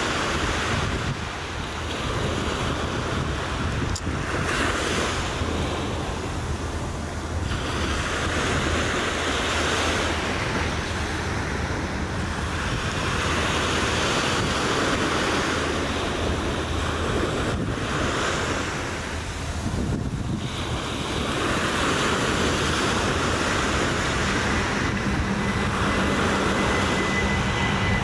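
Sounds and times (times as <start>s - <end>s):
surf washing on sandy beach: 0.0s - 28.0s
wind rumbling on microphone: 0.0s - 28.0s.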